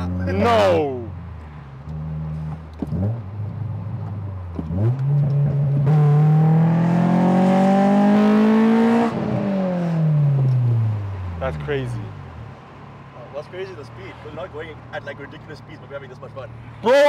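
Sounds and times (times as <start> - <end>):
car engine accelerating: 0.0 - 16.5.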